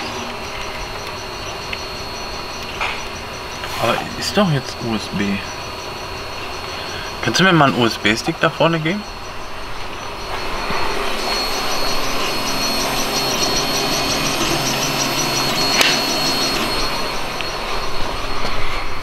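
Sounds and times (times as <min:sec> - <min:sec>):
faint rapid ticking: 0:00.0 - 0:17.6
machine rushing noise: 0:00.0 - 0:19.0
thin high whine: 0:00.0 - 0:19.0.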